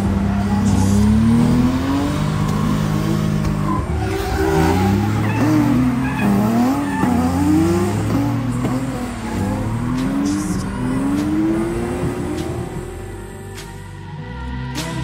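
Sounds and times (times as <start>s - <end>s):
car engines revving: 0.0s - 15.0s
tyres skidding: 0.0s - 15.0s.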